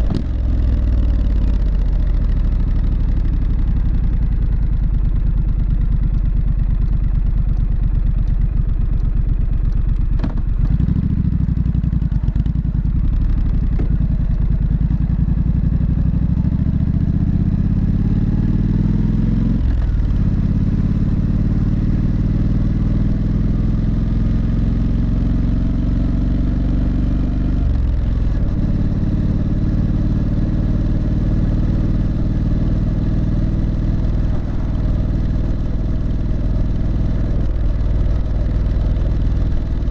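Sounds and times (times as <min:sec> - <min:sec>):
motorcycle exhaust revving: 0:05.1 - 0:39.9.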